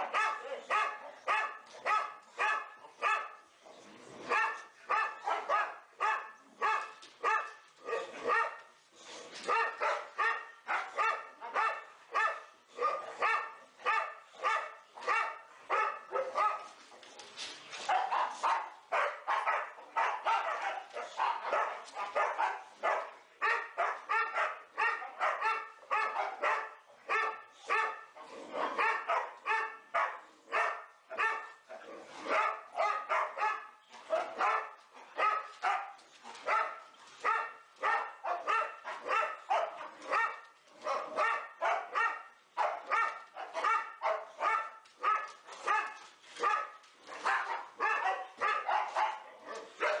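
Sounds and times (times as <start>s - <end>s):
dogs barking in play: 0.0s - 50.0s.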